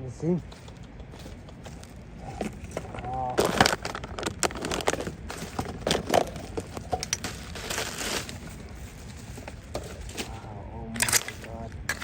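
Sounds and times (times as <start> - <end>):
hands rustling dry debris: 1.4 - 12.0.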